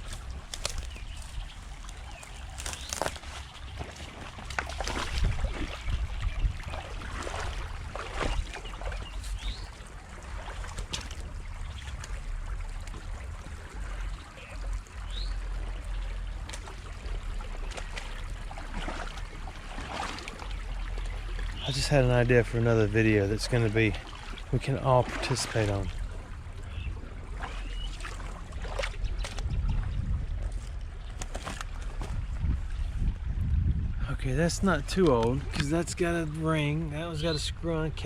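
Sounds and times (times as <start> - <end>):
creek water trickling: 0.0 - 38.0
low steady rumble: 0.0 - 38.0.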